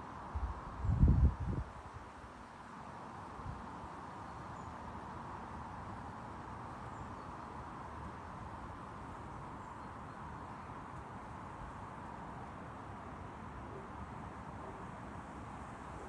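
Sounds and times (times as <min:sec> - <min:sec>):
wind through tree: 0:00.0 - 0:16.0.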